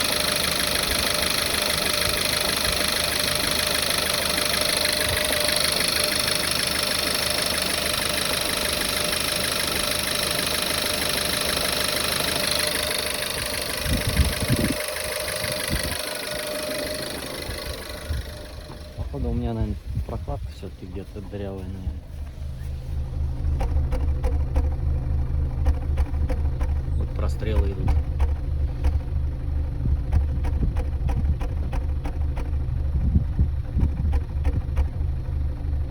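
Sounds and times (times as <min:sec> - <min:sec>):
car engine idling: 0:00.0 - 0:35.9
heavy low engine thumps: 0:00.6 - 0:35.9.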